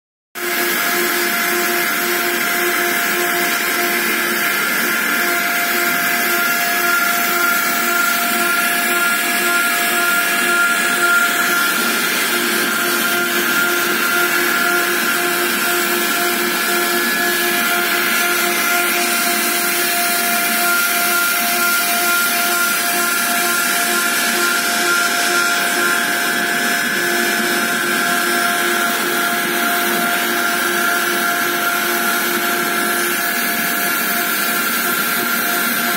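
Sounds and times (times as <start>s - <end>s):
engraving machine spindle whine: 0.4s - 35.9s.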